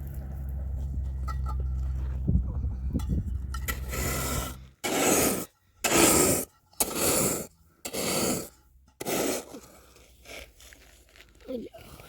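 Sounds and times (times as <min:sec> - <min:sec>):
rasping scraping strokes: 0:01.2 - 0:11.0.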